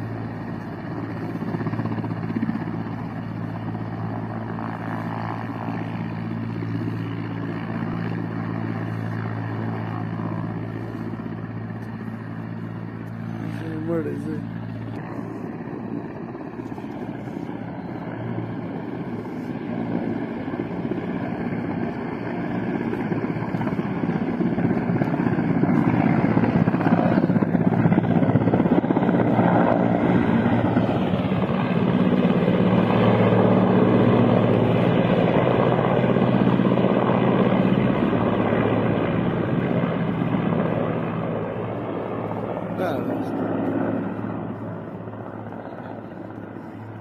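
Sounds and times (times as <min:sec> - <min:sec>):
helicopter rotor and turbine: 0:00.0 - 0:47.0.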